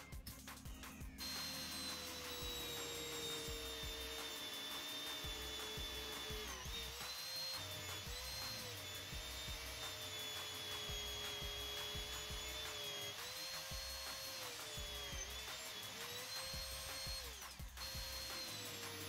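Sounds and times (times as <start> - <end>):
drill press boring into steel: 1.0 - 19.0.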